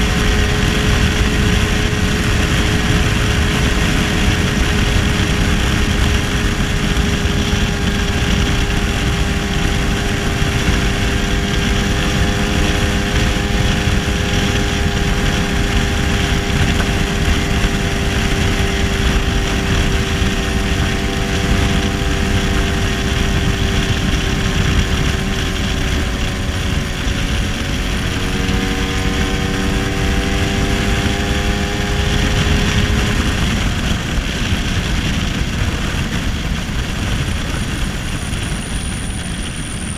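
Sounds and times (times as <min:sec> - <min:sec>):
scooter engine running: 0:00.0 - 0:39.9
wind buffeting microphone: 0:00.0 - 0:39.9.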